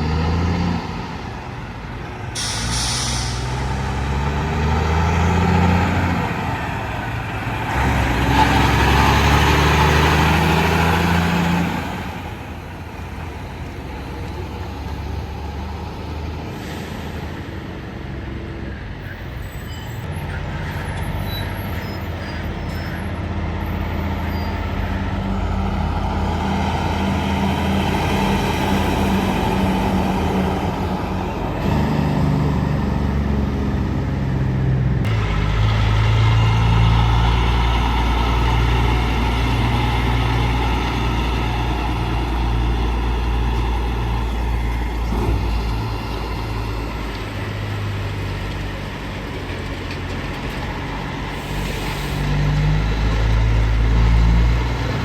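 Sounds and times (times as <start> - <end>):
diesel truck engine drone: 0.0 - 55.0
tyre and road noise: 0.0 - 55.0.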